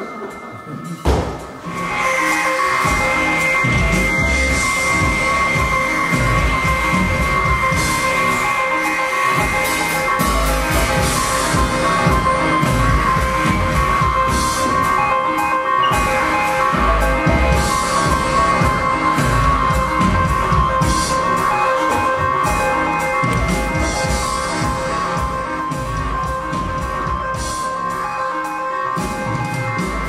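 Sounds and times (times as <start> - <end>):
high held tones: 0.0 - 30.0
loud music with pulsing drum beat: 0.0 - 30.0.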